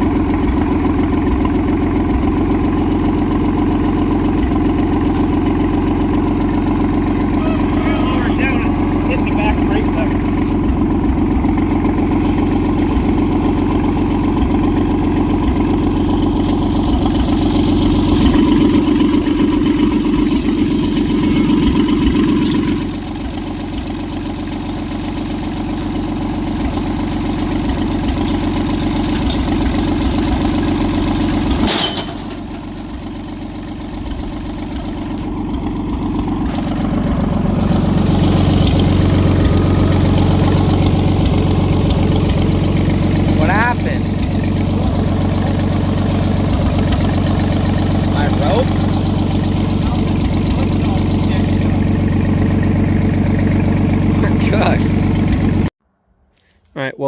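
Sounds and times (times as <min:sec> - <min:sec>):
tractor engine running: 0:00.0 - 0:55.8.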